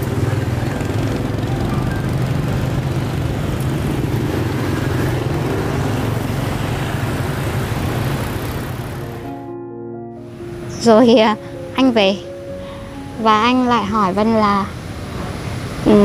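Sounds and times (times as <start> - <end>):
cars passing: 0.0 - 16.0
motorbikes passing: 0.0 - 16.0.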